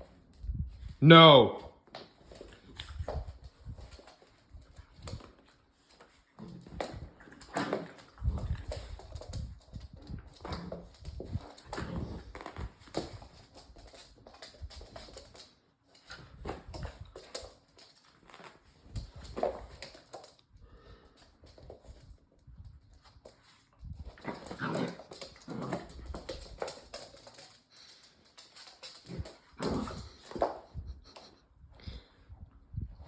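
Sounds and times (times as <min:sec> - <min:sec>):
puppies scuffling: 0:01.7 - 0:32.1.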